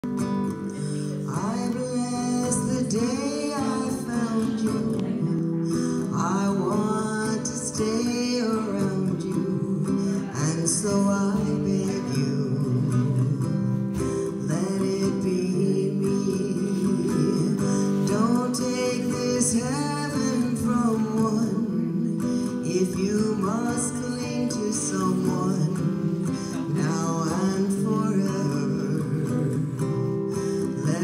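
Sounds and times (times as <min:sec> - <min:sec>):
acoustic guitar strumming: 0:00.0 - 0:31.0
woman singing a slow ballad: 0:00.8 - 0:31.0.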